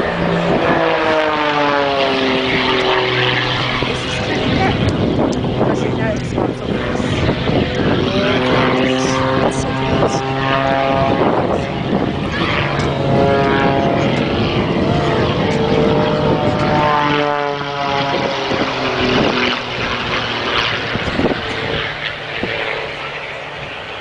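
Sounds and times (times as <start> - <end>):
biplane propeller engine: 0.0 - 24.0.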